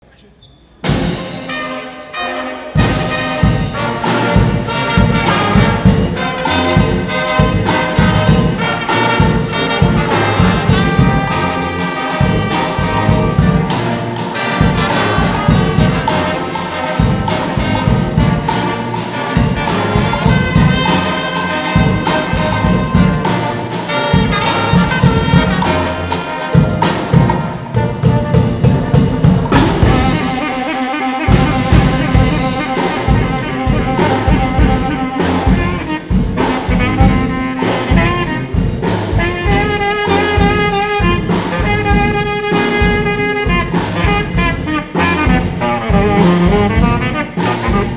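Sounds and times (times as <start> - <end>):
steady drum beat: 0.8 - 47.9
trumpets and trombones: 0.8 - 47.9.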